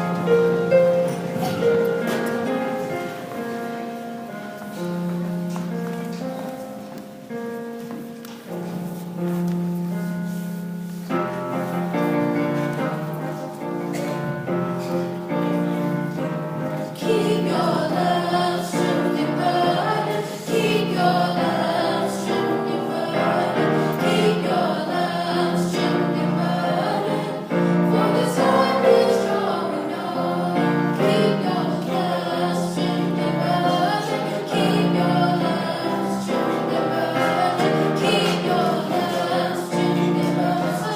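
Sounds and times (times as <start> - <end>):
gospel choir singing: 0.0 - 5.6, 10.3 - 40.9
instrumental accompaniment: 0.0 - 40.9.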